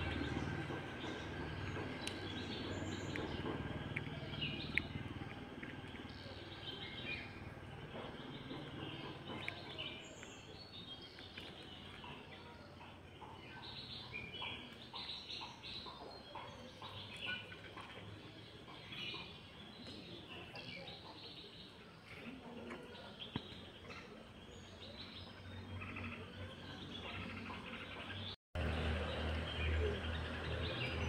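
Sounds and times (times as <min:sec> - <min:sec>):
chickens chirping and clucking: 0:00.0 - 0:28.3.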